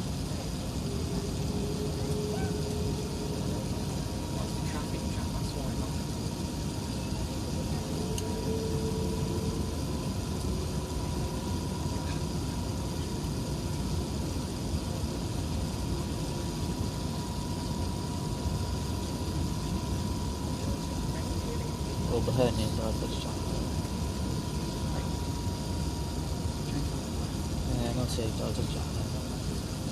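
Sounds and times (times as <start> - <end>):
airplane cabin engine rumble: 0.0 - 29.9
faint steady hum: 0.0 - 29.9.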